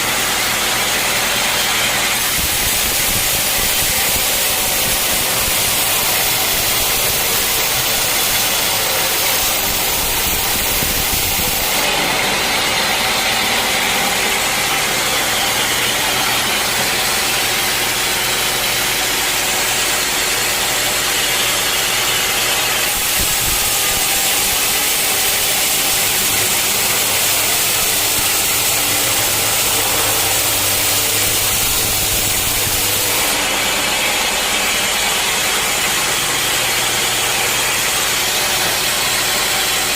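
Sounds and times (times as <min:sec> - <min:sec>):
saw cutting wood hiss: 0:00.0 - 0:39.9
sawmill engine drone: 0:00.0 - 0:39.9.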